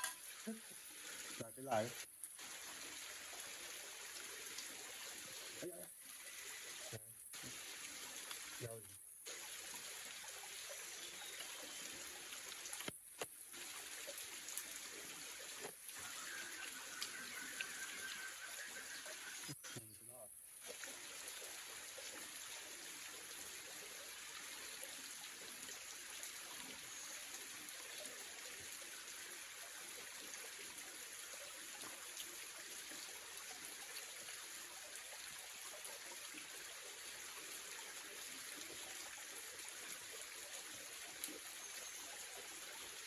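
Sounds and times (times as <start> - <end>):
running water hiss: 0.0 - 43.0.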